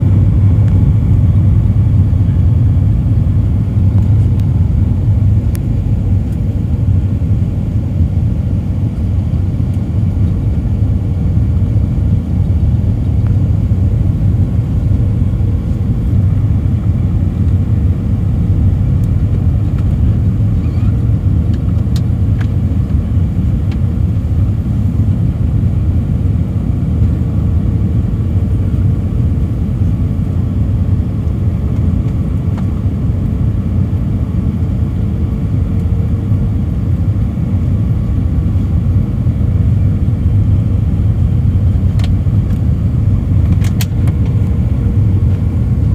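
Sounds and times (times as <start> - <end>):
aircraft cabin engine rumble: 0.0 - 45.9
faint steady hum: 0.0 - 45.9.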